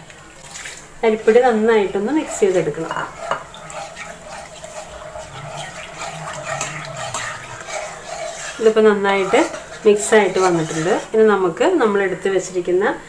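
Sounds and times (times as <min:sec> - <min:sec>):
coconut squelching in water: 0:00.1 - 0:11.2.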